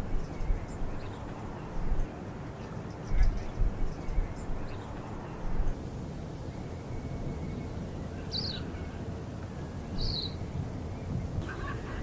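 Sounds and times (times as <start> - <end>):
steady low rumble: 0.0 - 2.4, 3.0 - 12.0.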